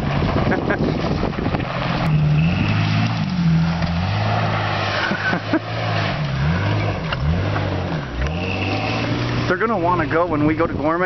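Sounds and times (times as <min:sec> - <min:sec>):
engine revving: 0:01.1 - 0:10.4.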